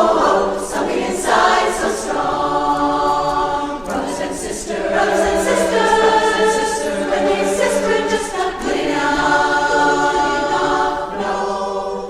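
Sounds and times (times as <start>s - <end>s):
a cappella chorus singing: 0.0s - 12.0s.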